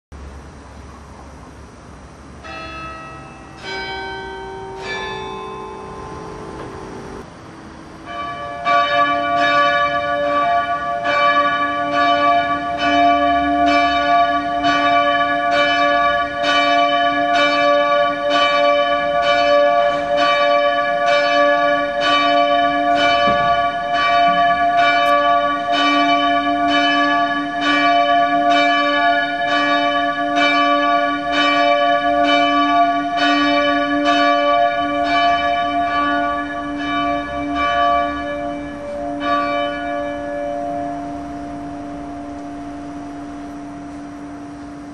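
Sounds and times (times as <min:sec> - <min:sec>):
church bell ringing: 0:02.4 - 0:07.3, 0:08.0 - 0:44.9.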